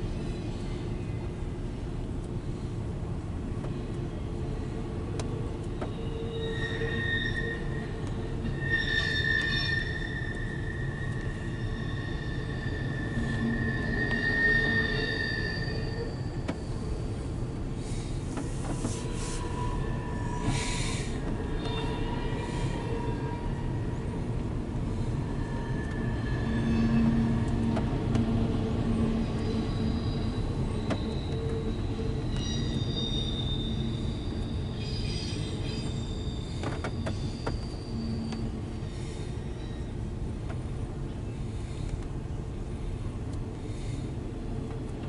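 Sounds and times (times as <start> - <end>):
freight train rumbling past: 0.0 - 45.0.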